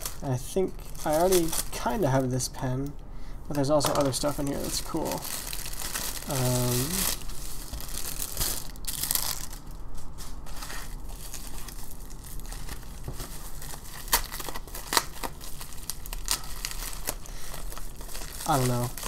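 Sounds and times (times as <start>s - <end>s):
plastic packaging crinkling: 0.0s - 2.6s, 3.5s - 19.0s.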